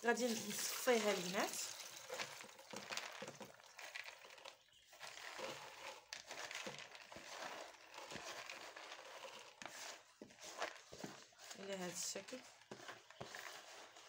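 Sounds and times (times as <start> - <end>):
wet lentils rustling and clicking: 0.0 - 14.0.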